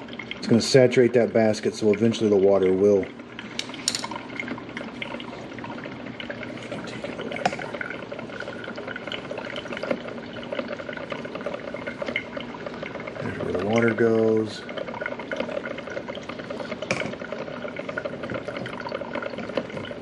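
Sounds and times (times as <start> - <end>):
coffee maker water sputtering: 0.0 - 20.0.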